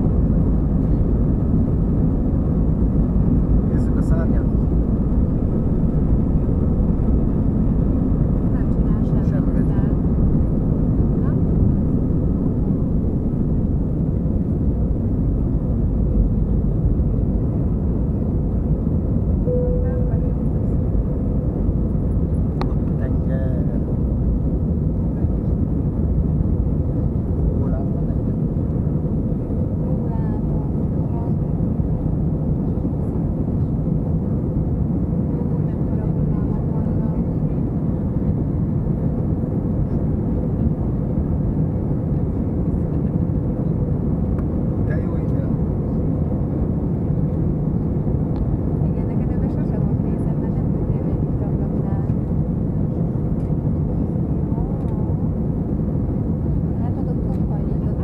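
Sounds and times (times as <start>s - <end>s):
faint steady hum: 0.0s - 58.0s
jet engines rumbling: 0.0s - 58.0s.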